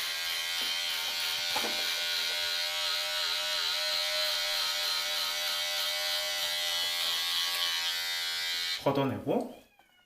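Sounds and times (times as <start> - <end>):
electric hair clipper buzzing: 0.0 - 8.9.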